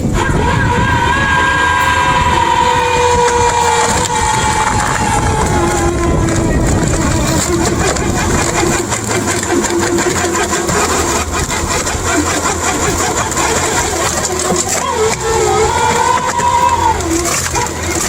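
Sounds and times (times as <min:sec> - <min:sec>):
fast mechanical chatter: 0:00.0 - 0:18.0
heavy machine engine running: 0:00.0 - 0:18.0.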